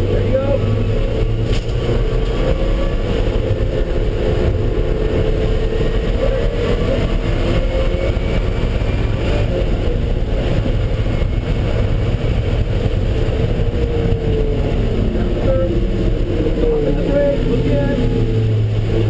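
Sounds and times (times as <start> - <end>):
car engine running: 0.0 - 19.0
tyre and road noise: 0.0 - 19.0.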